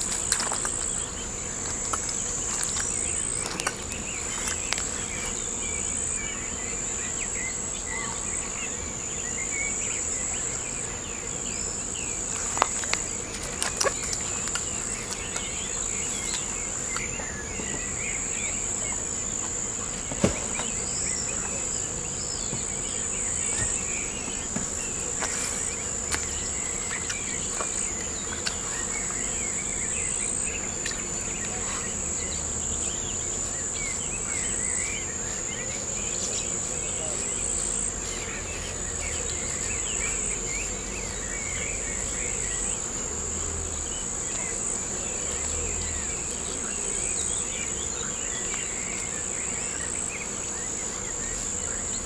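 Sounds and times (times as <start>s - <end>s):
birds chirping: 0.0s - 52.0s
high-pitched insect chorus: 0.0s - 52.0s.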